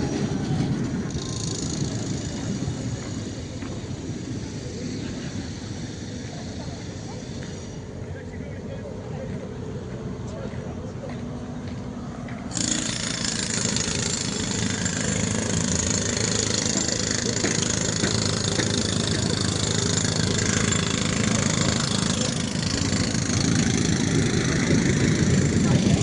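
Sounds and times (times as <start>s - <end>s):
vehicle engine rumble and hiss: 0.0s - 26.0s.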